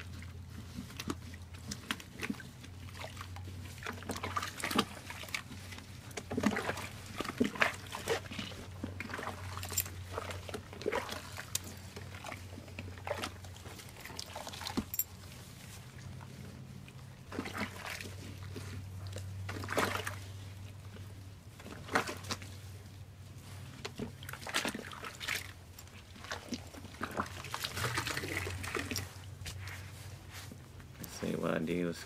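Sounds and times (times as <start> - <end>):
water splashing in a plastic tub: 0.0 - 32.0.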